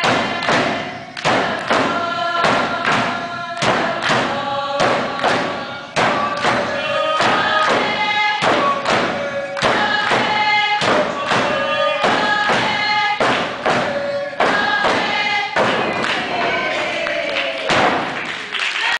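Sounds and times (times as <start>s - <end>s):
frame drums beating: 0.0s - 17.0s, 17.7s - 18.2s
group singing in unison: 0.0s - 18.9s.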